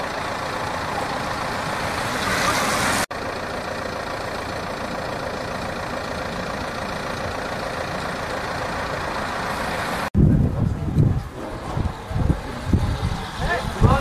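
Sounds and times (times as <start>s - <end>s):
cyclists passing: 0.0s - 14.0s
road and outdoor noise: 0.0s - 14.0s.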